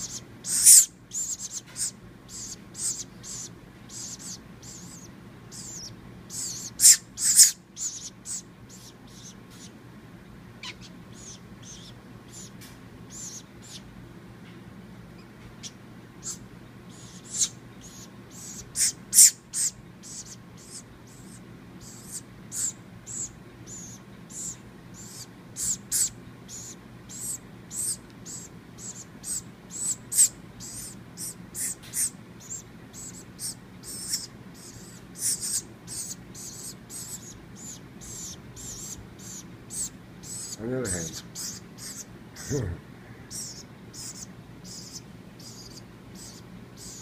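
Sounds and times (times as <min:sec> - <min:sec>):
baby bird squeaky begging calls: 0:00.0 - 0:09.8, 0:10.6 - 0:13.9, 0:15.2 - 0:42.6, 0:43.3 - 0:47.0.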